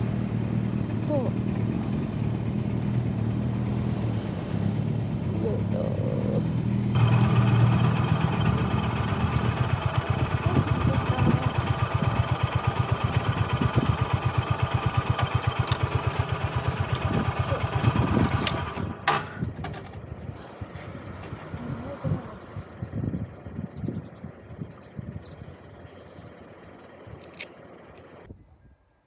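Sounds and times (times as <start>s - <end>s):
motorcycle engine idling: 0.0s - 28.3s.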